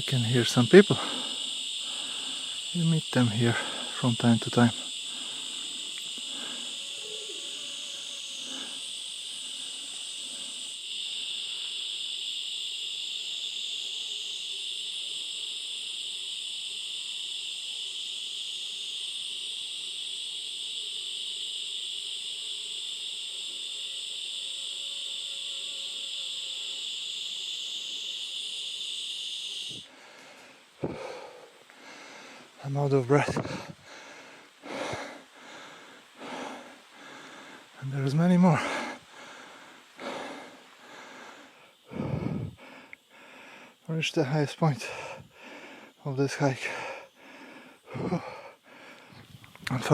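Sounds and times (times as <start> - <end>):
jungle insects droning: 0.0 - 49.9.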